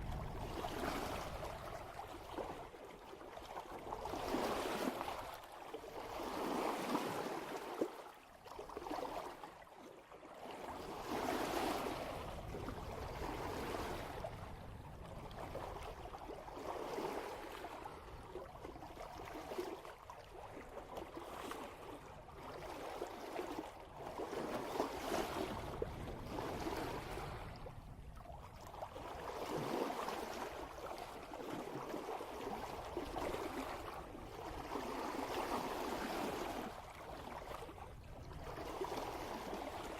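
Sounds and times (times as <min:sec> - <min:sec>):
water rushing along boat hull: 0:00.0 - 0:39.9.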